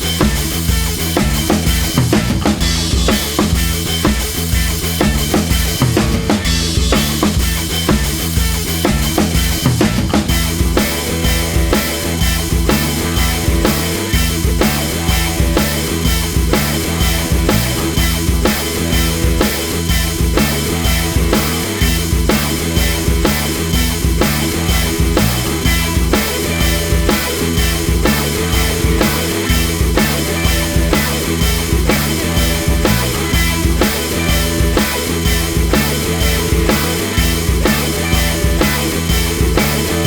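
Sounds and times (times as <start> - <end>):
rock music: 0.0 - 40.0.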